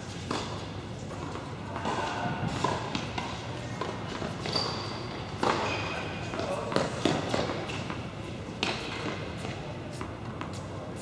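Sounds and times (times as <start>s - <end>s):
tennis balls bouncing on court: 0.0s - 11.0s.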